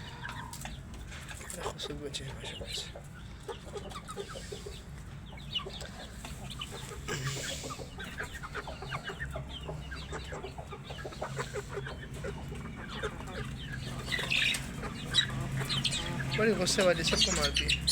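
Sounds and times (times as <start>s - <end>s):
chickens clucking and peeping: 0.0s - 17.9s.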